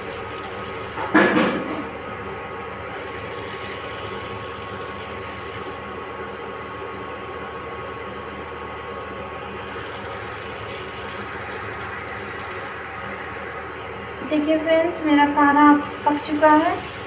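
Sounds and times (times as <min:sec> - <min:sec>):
gas burner noise: 0:00.0 - 0:17.0
herbal drink boiling in a pot: 0:00.0 - 0:17.0.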